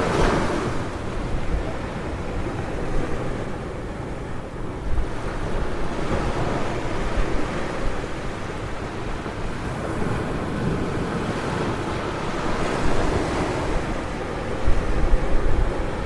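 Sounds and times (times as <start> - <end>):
ocean waves on beach: 0.0 - 16.0
wind rumbling on microphone: 0.0 - 16.0.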